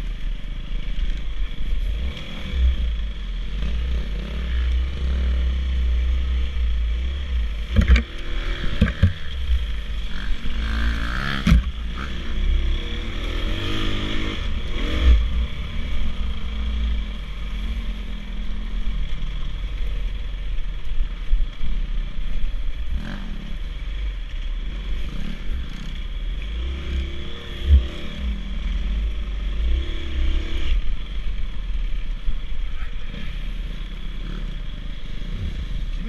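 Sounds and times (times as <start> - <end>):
dirt bike engine running: 0.0 - 36.0.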